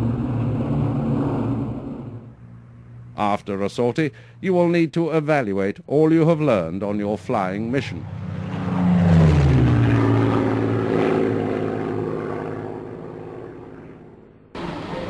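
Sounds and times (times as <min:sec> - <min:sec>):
propeller aircraft flying past: 0:00.0 - 0:04.4, 0:06.1 - 0:15.0.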